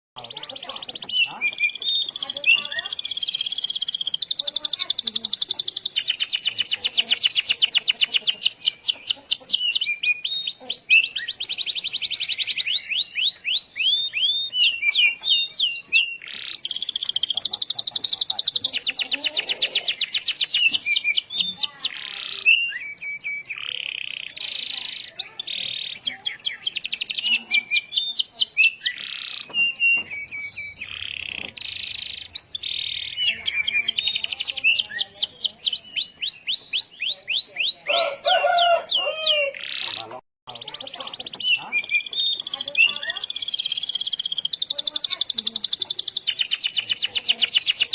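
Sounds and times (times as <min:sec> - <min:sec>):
canary singing trills: 0:00.2 - 0:47.9.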